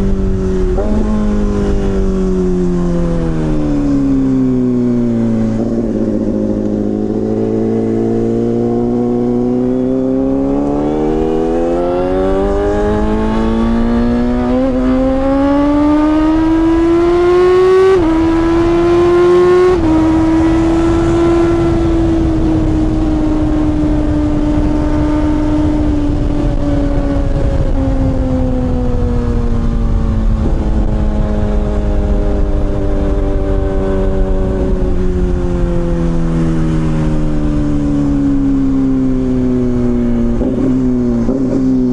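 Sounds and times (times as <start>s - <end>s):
motorcycle engine accelerating: 0.0s - 41.9s
wind rumble on microphone: 0.0s - 41.9s.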